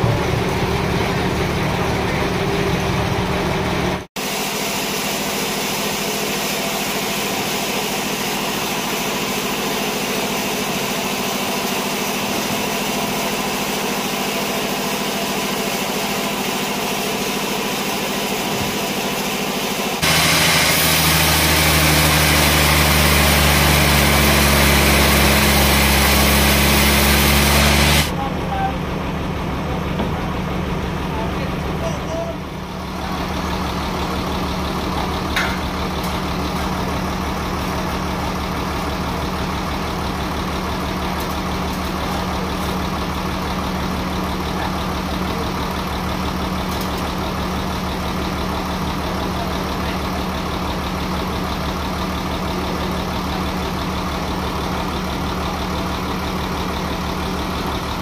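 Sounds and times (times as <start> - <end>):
engine idling: 0.0 - 58.0
louder engine deep hum: 0.0 - 58.0.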